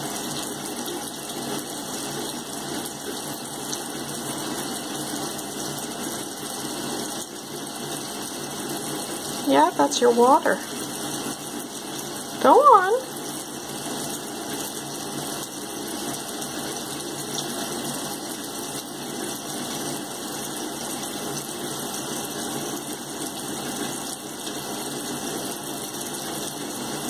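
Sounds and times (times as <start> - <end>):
tap water running into sink: 0.0 - 27.0.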